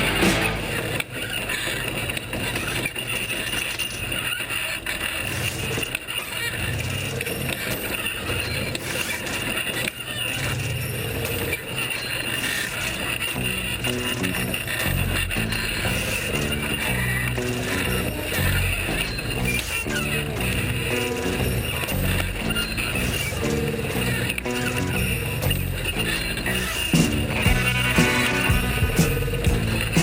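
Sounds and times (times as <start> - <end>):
off-road engine rumbling: 0.0 - 30.0.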